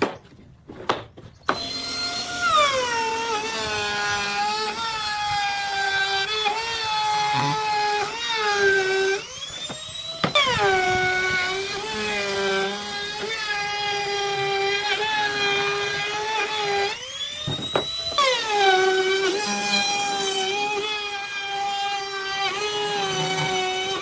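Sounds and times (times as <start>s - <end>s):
power tool cutting wood: 1.4s - 24.0s.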